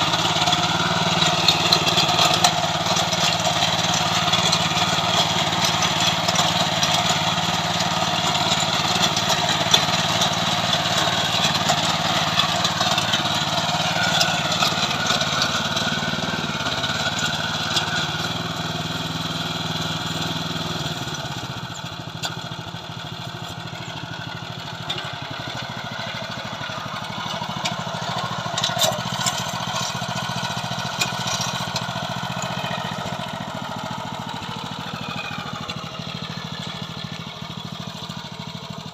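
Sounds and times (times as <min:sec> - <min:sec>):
small tiller engine running: 0:00.0 - 0:38.9.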